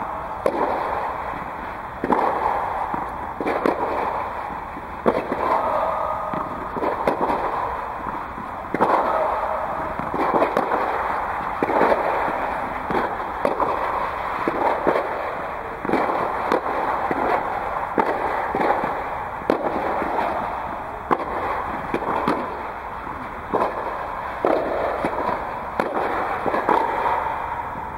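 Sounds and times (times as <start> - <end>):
steady background rush: 0.0 - 27.9
tennis balls struck and bouncing: 0.0 - 27.9.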